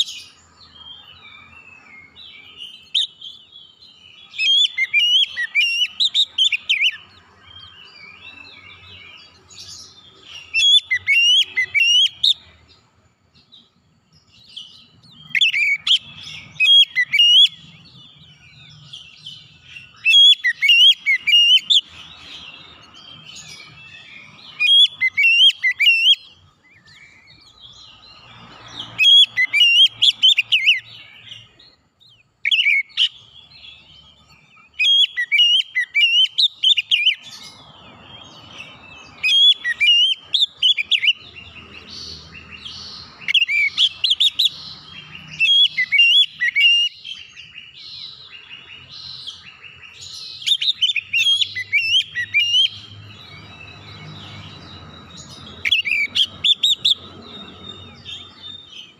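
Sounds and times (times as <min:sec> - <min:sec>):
bird singing whistled phrases: 0:01.3 - 0:09.0, 0:10.2 - 0:12.5, 0:14.5 - 0:27.5, 0:32.4 - 0:33.4, 0:34.6 - 0:37.4, 0:38.4 - 0:58.9.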